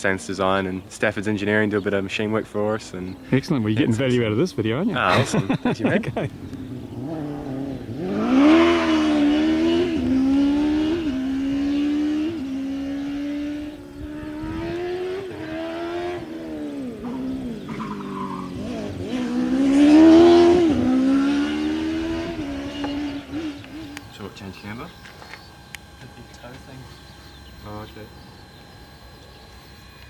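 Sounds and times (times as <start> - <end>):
race car engine accelerating: 5.6 - 29.8.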